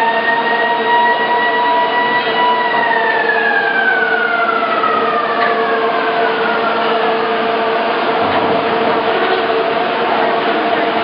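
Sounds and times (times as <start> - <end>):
industrial background noise: 0.0 - 11.0.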